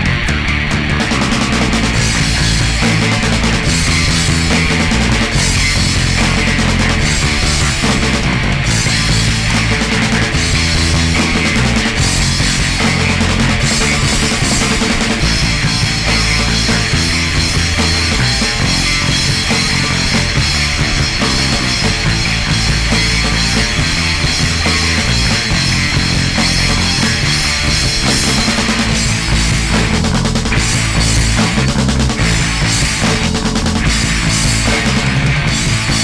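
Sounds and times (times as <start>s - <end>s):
punk rock instrumental: 0.0s - 36.0s.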